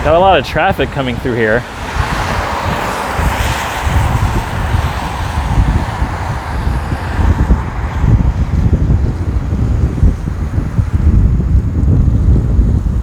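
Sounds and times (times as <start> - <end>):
traffic on wet road: 0.0 - 13.0
wind buffeting microphone: 0.0 - 13.0.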